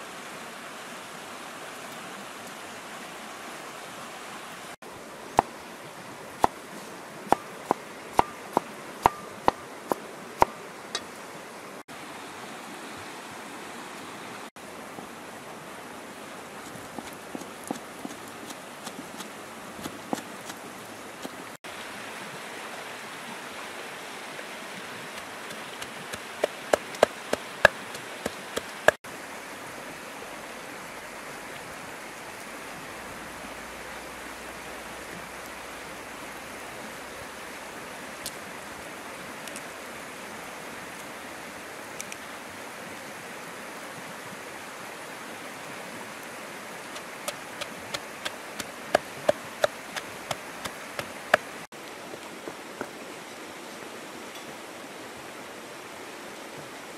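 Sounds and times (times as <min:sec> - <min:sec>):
river flowing: 0:00.0 - 0:56.9.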